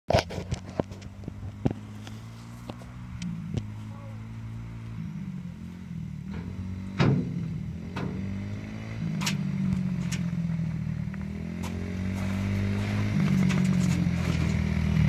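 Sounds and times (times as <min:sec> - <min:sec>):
motorbike engine running: 0:00.1 - 0:15.0.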